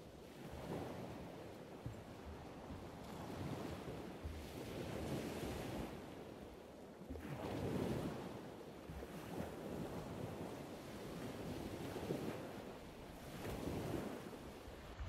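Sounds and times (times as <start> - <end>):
ocean surf: 0.0 - 6.4, 7.2 - 15.0
wind buffeting the microphone: 0.1 - 6.4, 7.2 - 15.0.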